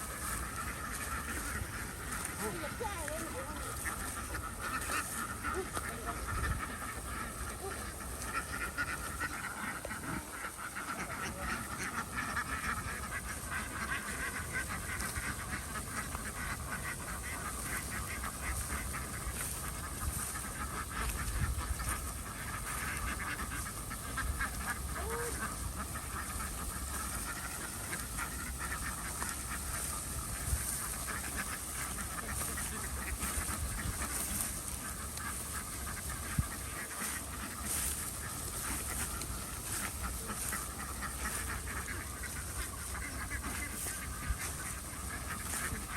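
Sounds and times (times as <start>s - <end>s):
ducks quacking: 0.0s - 45.9s.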